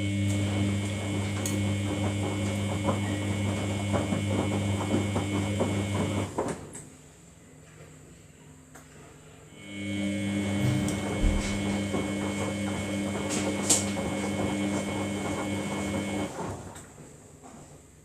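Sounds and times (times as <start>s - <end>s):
washing machine motor hum: 0.0s - 6.8s, 9.5s - 17.4s.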